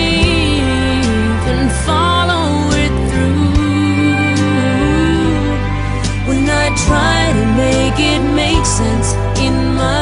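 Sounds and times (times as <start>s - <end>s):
slow country song: 0.0s - 10.0s.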